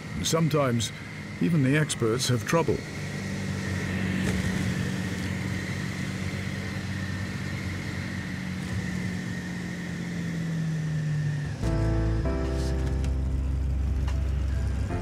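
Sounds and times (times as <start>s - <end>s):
aircraft engine running steadily: 0.0s - 15.0s.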